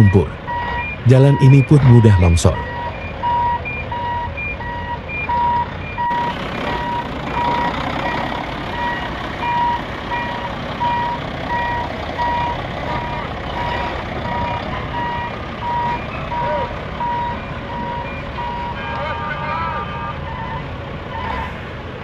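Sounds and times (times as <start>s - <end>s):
engine rumble: 0.0s - 18.8s
truck reversing alarm beeping: 0.0s - 21.7s.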